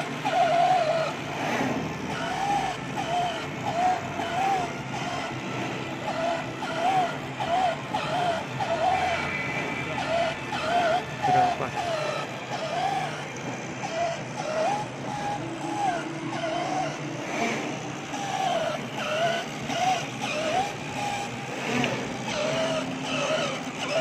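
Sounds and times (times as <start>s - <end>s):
drive motors whining: 0.0s - 24.0s
steady low hum: 0.0s - 24.0s.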